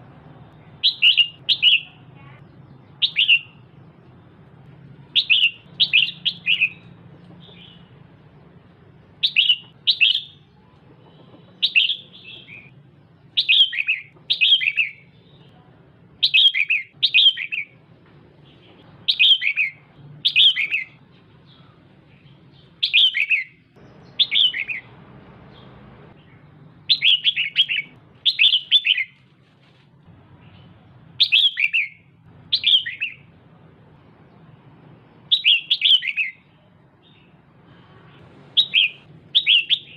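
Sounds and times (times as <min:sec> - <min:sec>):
bird chirping: 0:00.3 - 0:04.4, 0:05.0 - 0:17.8, 0:18.4 - 0:29.2, 0:30.3 - 0:33.4, 0:34.2 - 0:37.4, 0:38.1 - 0:39.9.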